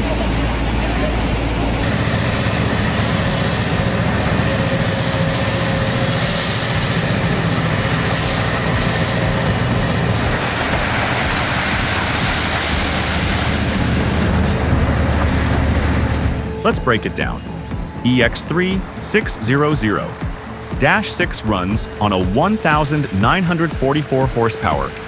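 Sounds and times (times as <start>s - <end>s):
broad rushing noise: 0.0s - 25.0s
heavy machinery engine running: 0.0s - 25.0s.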